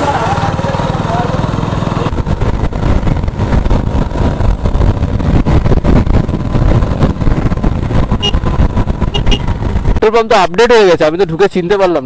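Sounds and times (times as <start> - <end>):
motorcycle engine running: 0.0 - 10.1
wind buffeting microphone: 1.5 - 11.5.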